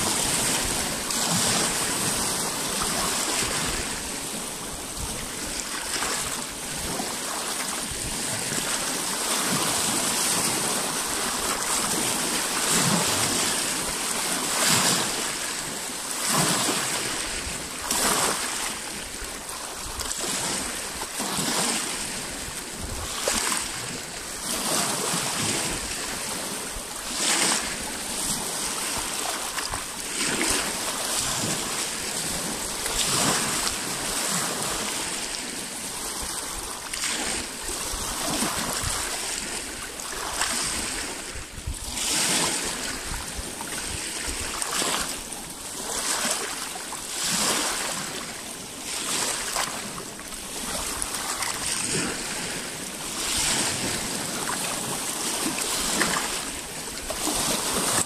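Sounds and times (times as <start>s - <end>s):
waves lapping on rocky shore: 0.0s - 58.0s.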